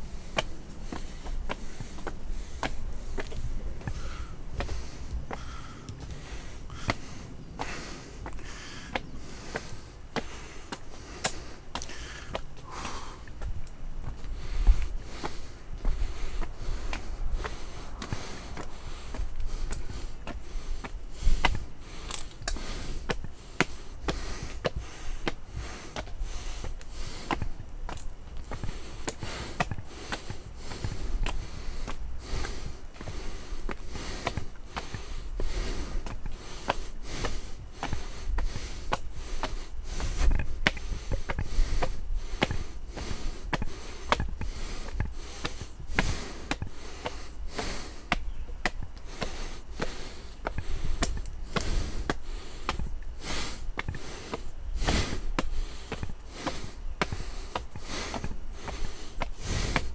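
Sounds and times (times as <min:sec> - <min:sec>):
heavy breathing through nose: 0:00.0 - 0:59.9
hiker footsteps: 0:00.0 - 0:59.9
steady low rumble: 0:00.0 - 0:59.9.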